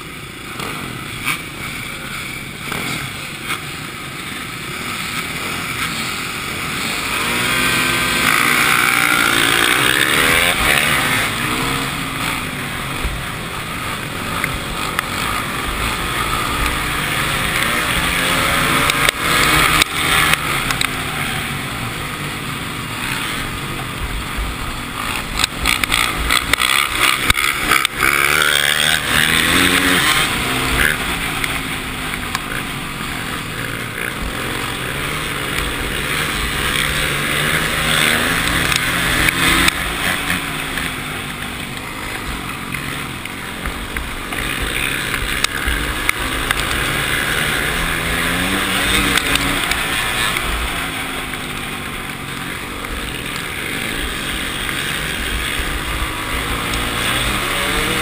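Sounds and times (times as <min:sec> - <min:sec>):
dirt bike engine racing: 0:00.0 - 0:58.0
other dirt bikes running: 0:00.0 - 0:58.0.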